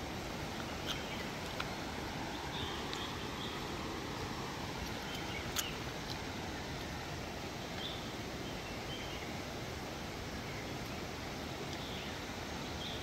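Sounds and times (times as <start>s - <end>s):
forest stream rushing: 0.0s - 13.0s.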